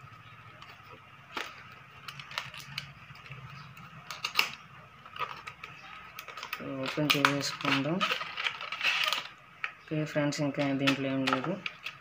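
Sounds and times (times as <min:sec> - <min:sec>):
plastic blister pack crinkling: 0:00.3 - 0:12.0.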